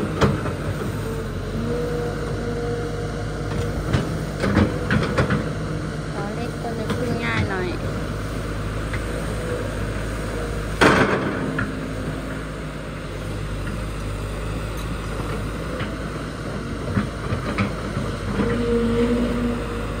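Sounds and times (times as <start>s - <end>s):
excavator running: 0.0s - 20.0s
hydraulic pump whine: 0.0s - 20.0s.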